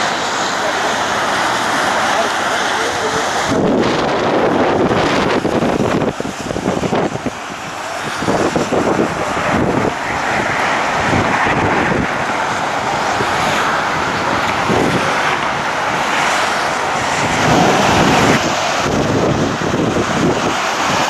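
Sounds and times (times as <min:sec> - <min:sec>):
choppy water washing: 0:00.0 - 0:21.0
gusty storm wind: 0:00.0 - 0:21.0.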